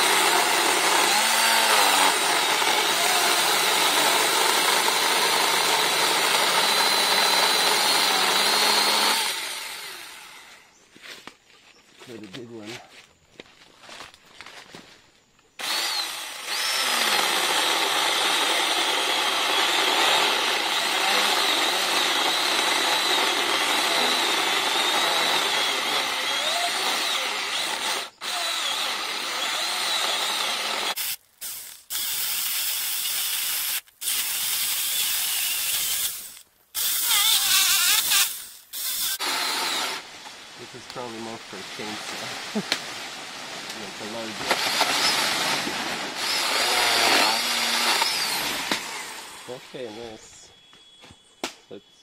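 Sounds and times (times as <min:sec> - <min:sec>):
mini chainsaw cutting wood: 0:00.0 - 0:10.7, 0:15.6 - 0:43.1, 0:43.7 - 0:50.2.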